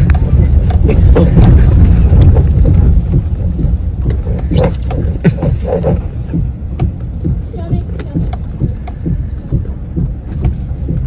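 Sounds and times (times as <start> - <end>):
pickup truck rumbling: 0.0 - 11.0
short knocks: 0.0 - 11.0.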